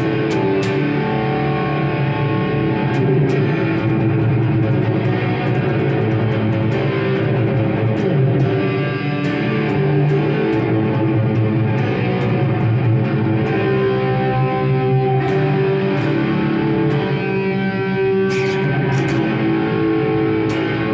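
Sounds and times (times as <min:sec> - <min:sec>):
overdriven electric guitar: 0:00.0 - 0:20.9.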